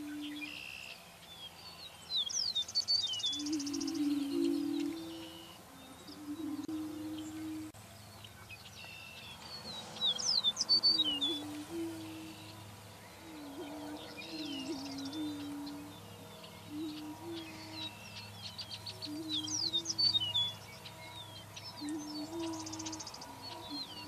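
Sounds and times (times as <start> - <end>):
low hooting moans: 0.0 - 0.9, 3.3 - 7.9, 9.7 - 24.0.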